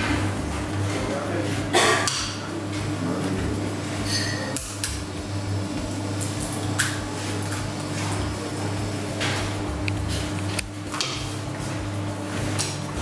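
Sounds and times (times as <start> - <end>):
utensils clinking against dishes: 0.0 - 5.1, 6.0 - 13.0
steady low hum: 0.0 - 13.0.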